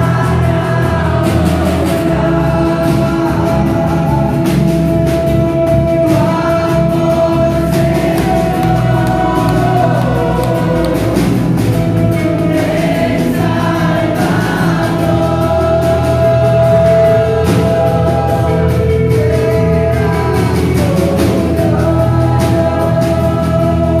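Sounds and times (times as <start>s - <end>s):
group singing held notes: 0.0s - 24.0s
worship band playing: 0.0s - 24.0s.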